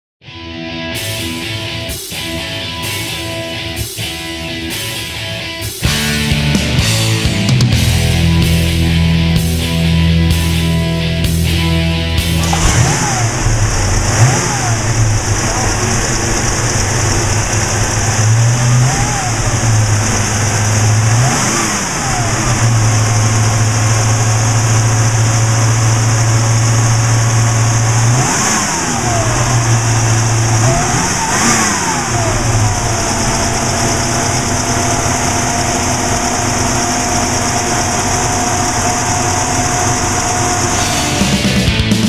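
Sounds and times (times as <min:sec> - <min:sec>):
car engine idling and revving: 0:01.0 - 0:42.0.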